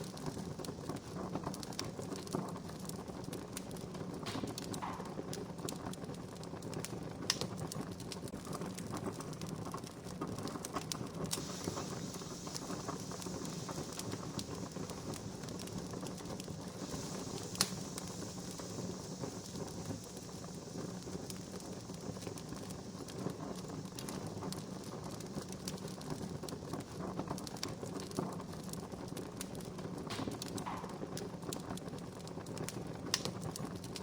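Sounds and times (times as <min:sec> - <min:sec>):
fire popping: 0:00.0 - 0:34.0
wood fire crackling: 0:00.0 - 0:34.0.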